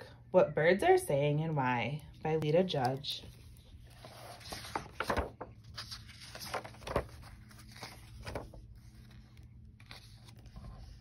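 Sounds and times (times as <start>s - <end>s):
book pages turning: 2.1s - 11.0s.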